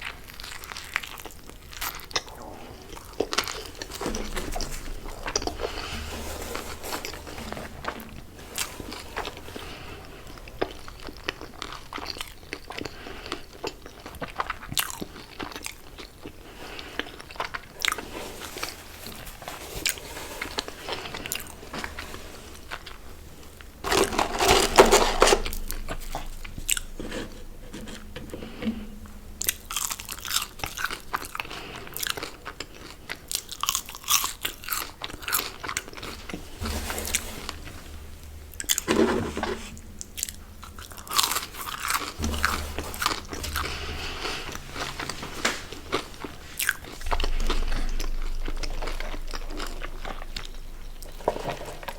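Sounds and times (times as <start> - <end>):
chewing and crunching food: 0.0 - 38.8, 40.0 - 51.9.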